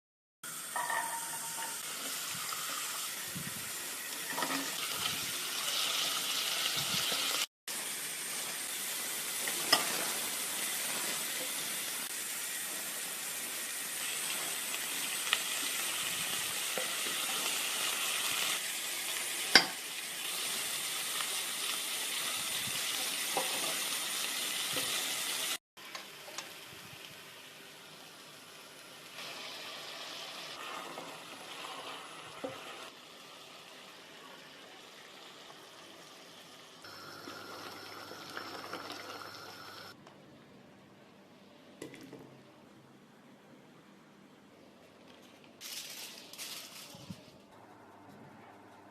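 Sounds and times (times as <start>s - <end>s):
food sizzling in hot oil: 0.4s - 40.0s.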